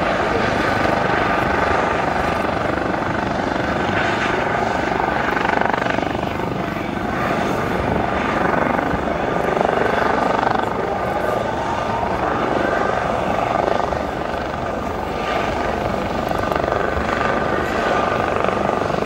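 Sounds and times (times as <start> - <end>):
helicopter high whine: 0.0 - 19.0
helicopter rotor beating: 0.0 - 19.0.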